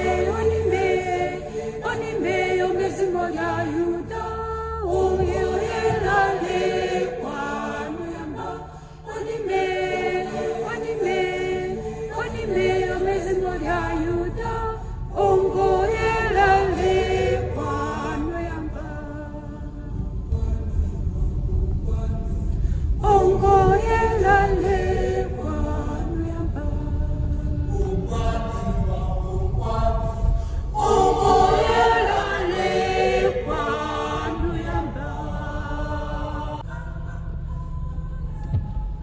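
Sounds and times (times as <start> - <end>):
choir singing unaccompanied: 0.0 - 39.0
low rumble of moving car: 0.0 - 39.0.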